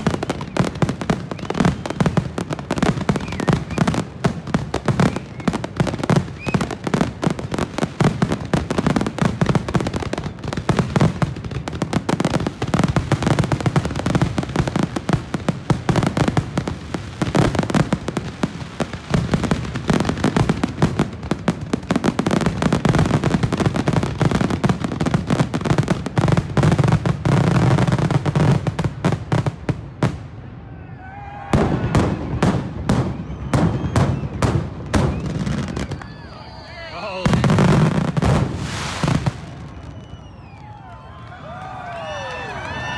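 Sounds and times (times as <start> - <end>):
fireworks booming and crackling: 0.0 - 30.5, 31.2 - 42.9.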